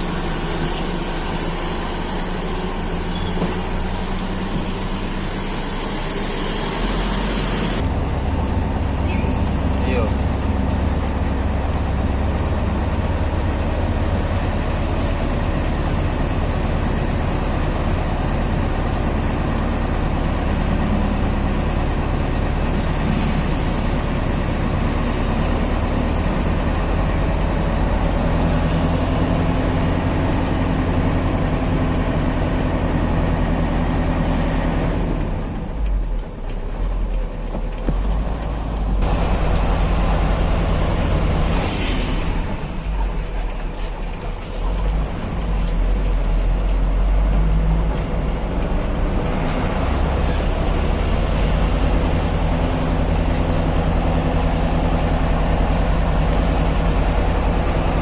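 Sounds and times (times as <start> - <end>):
road noise: 0.0 - 58.0
truck engine drone: 0.0 - 58.0.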